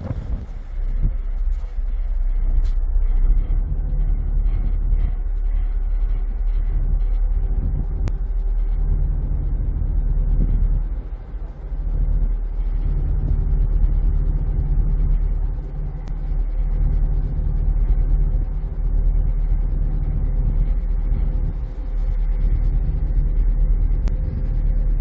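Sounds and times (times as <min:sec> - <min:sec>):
ferry engine rumble: 0:00.0 - 0:25.0.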